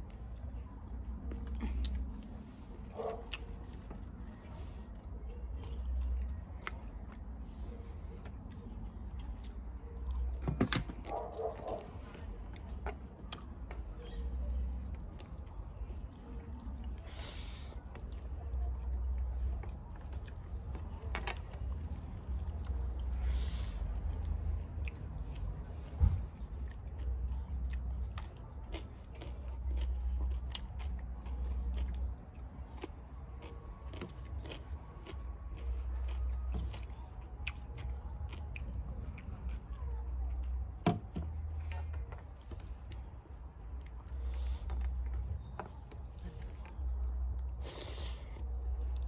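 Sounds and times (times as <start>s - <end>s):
person chewing food: 0.0s - 17.2s, 17.8s - 49.0s.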